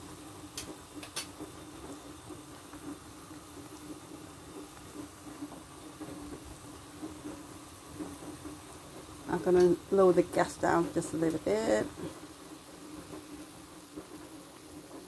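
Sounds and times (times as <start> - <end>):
soup bubbling at a boil: 0.0 - 15.0.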